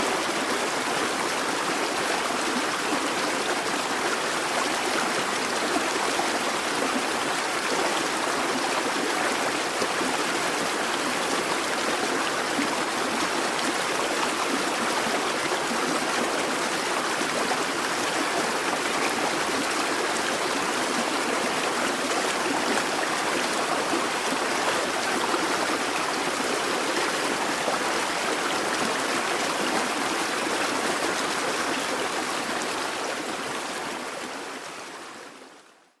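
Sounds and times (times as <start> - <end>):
brook gurgling over stones: 0.0 - 35.0.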